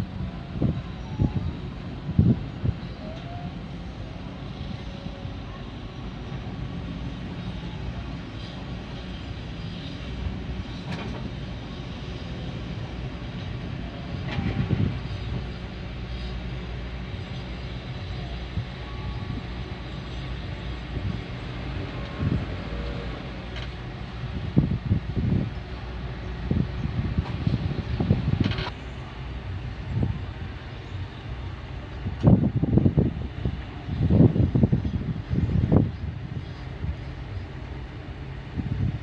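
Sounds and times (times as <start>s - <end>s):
heavy diesel engine running: 0.0s - 35.1s.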